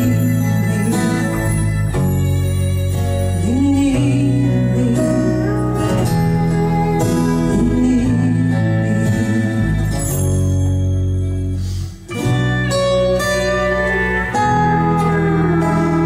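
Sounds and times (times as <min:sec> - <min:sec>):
live band playing slow song: 0:00.0 - 0:16.0.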